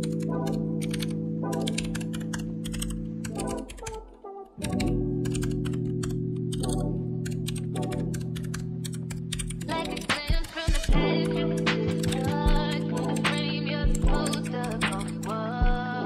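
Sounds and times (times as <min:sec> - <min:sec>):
fast mechanical keyboard typing: 0:00.0 - 0:04.0, 0:04.6 - 0:15.5
background music with sustained chords: 0:00.0 - 0:10.1, 0:10.9 - 0:16.0.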